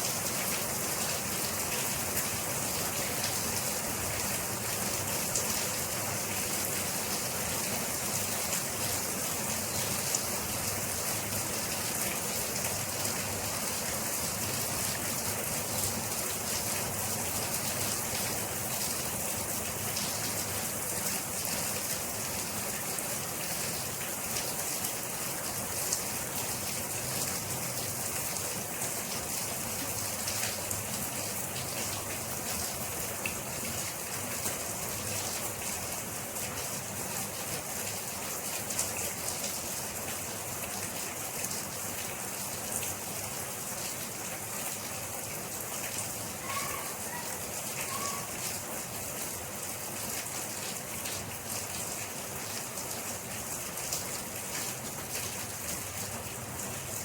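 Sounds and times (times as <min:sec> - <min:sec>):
rain drops ticking on hard surface: 0:00.0 - 0:57.0.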